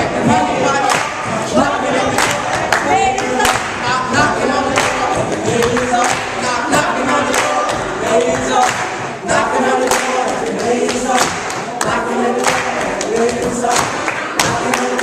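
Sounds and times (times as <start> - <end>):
young voices chanting and singing: 0.0 - 15.0.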